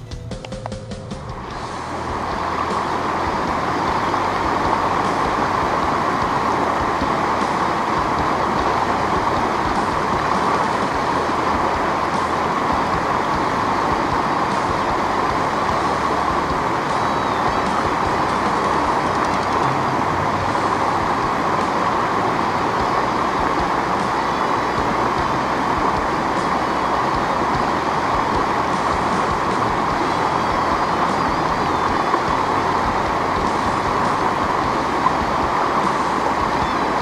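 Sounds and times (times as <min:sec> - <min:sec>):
river water rushing over stones: 0:01.3 - 0:37.0.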